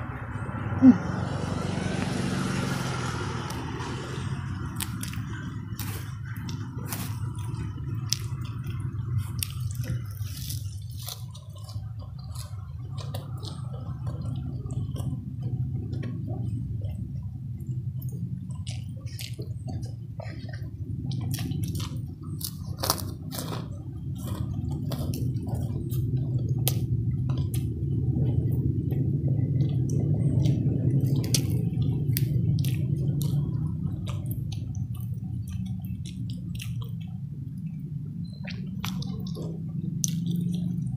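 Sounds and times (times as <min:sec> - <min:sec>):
low rumble: 0:00.0 - 0:40.9
wet chewing and lip-smacking: 0:00.9 - 0:40.9.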